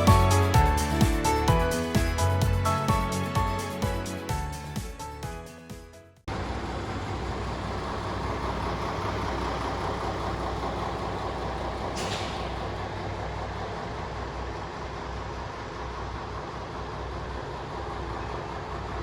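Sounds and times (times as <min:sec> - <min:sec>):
heavy vehicle engine humming: 0:00.0 - 0:19.0.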